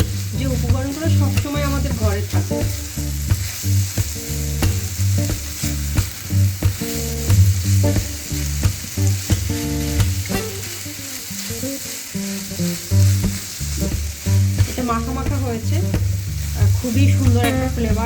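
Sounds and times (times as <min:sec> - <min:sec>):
spatula tapping and scraping pan: 0:00.0 - 0:11.8, 0:12.9 - 0:18.0
food sizzling in a frying pan: 0:00.0 - 0:18.0
soft background music: 0:00.0 - 0:18.0.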